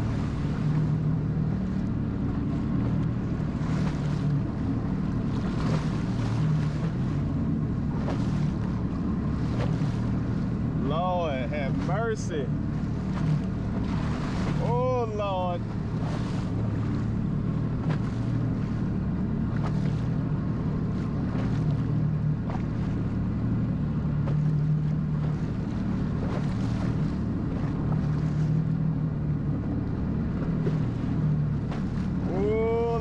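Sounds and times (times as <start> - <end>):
jet ski engine droning: 0.0 - 33.0
rushing water: 0.0 - 33.0.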